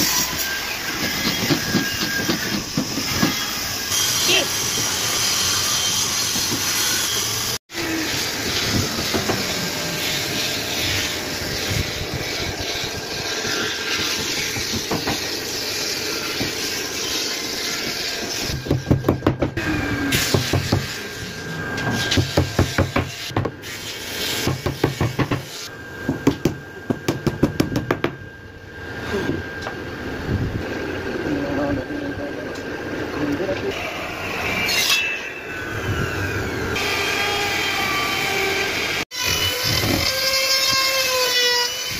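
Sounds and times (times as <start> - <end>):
workshop hiss: 0.0 - 41.9.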